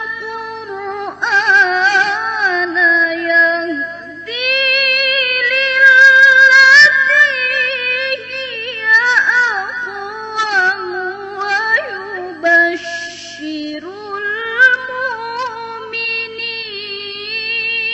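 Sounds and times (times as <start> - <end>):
woman reciting melodically: 0.0 - 17.9.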